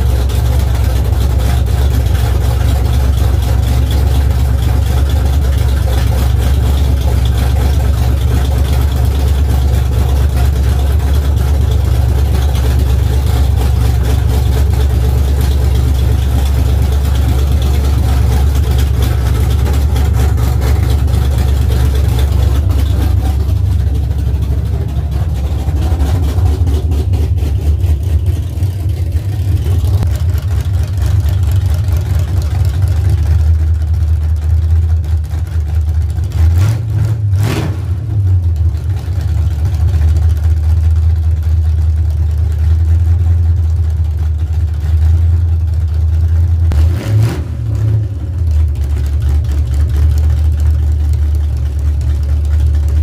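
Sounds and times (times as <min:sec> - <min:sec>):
car engine deep rumble: 0:00.0 - 0:53.0.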